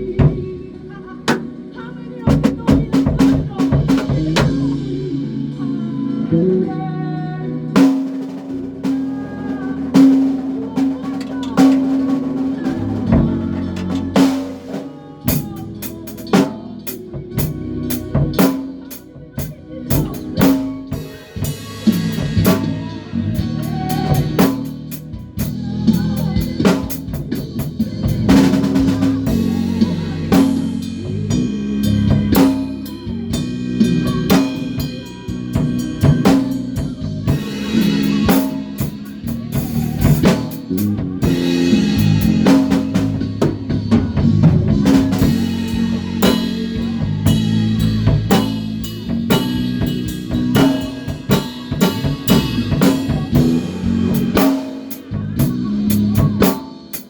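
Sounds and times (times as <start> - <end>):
drum kit playing: 0.0 - 6.6, 7.7 - 57.0
bass line: 0.0 - 56.6.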